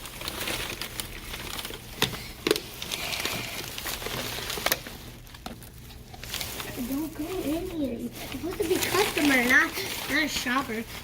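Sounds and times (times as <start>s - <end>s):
toys rustling when handled: 0.0s - 11.0s.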